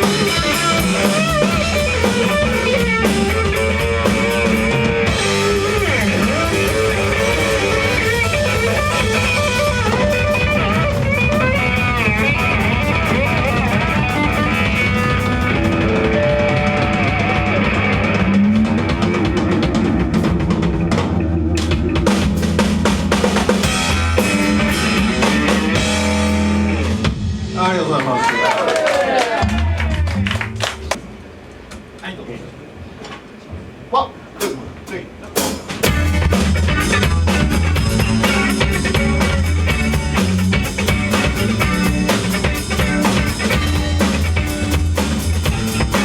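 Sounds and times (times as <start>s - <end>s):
rock band playing: 0.0s - 30.9s, 35.4s - 46.0s.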